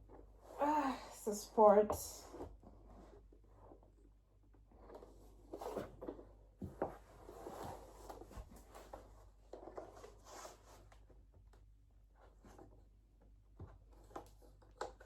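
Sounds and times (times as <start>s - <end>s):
faint rustling and handling: 0.0s - 15.0s.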